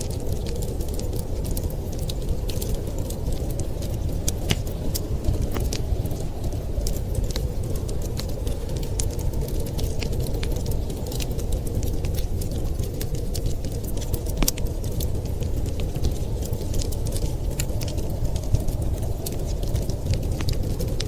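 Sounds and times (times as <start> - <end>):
blizzard wind: 0.0 - 21.0
wood fire crackling: 0.0 - 21.0.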